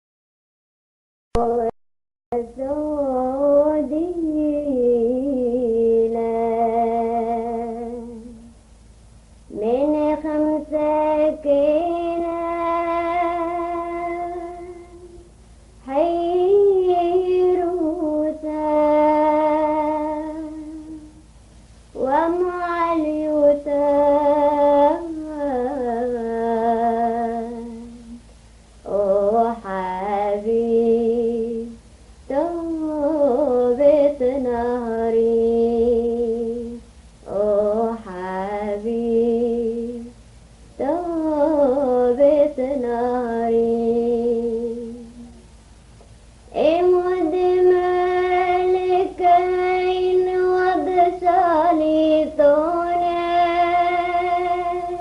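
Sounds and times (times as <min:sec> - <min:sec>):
person singing unaccompanied: 0:01.4 - 0:08.6, 0:09.5 - 0:21.3, 0:21.9 - 0:45.5, 0:46.5 - 0:55.0.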